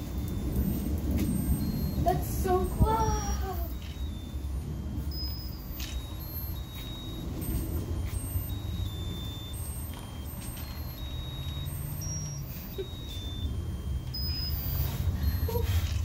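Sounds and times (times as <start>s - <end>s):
high beeping electronic tune: 0.0s - 16.0s
steady low rumble: 0.0s - 16.0s.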